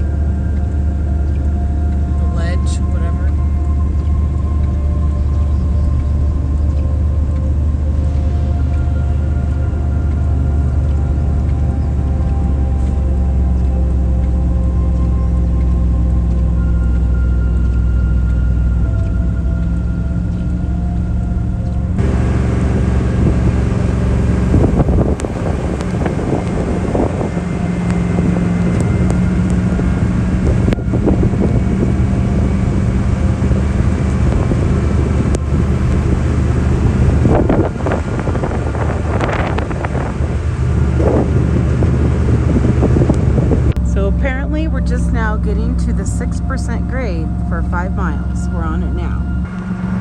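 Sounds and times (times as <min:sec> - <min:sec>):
pickup engine humming: 0:00.0 - 0:50.0
road and wind noise: 0:00.0 - 0:50.0.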